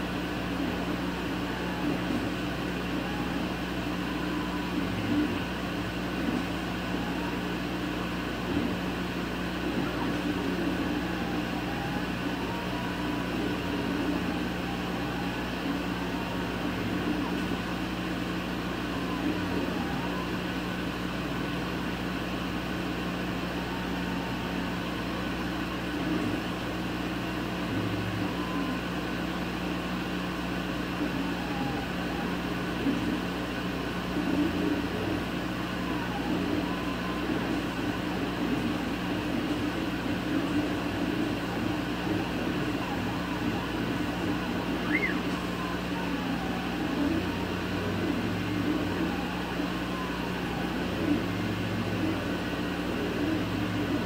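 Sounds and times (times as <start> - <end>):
laser cutter fan hum: 0.0 - 54.0
motors whining: 0.0 - 54.0.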